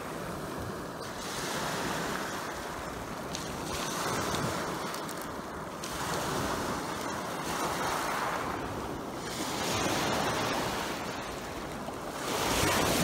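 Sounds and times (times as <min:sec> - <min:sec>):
waves washing over pebbles: 0:00.0 - 0:13.0.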